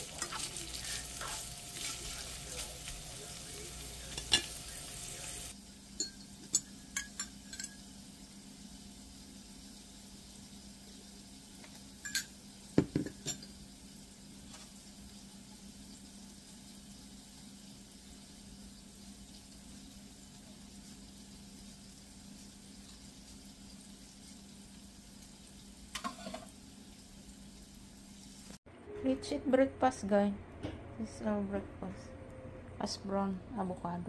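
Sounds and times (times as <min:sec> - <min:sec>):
low hum and hiss: 0:00.0 - 0:22.4, 0:25.0 - 0:34.0.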